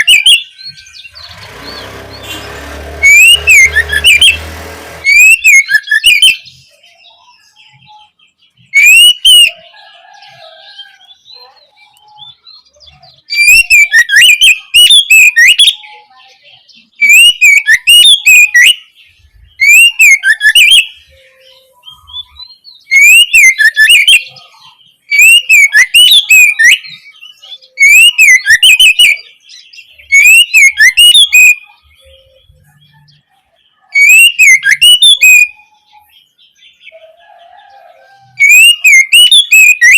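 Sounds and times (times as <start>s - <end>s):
bird singing whistled phrases: 0.0s - 4.4s, 5.0s - 9.7s, 10.3s - 16.1s, 16.8s - 33.2s, 33.8s - 36.3s, 37.9s - 39.9s.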